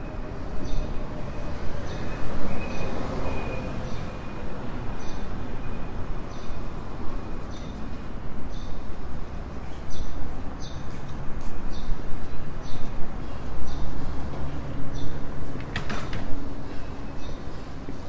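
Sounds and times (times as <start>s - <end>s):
low rumble of street noise: 0.0s - 18.0s.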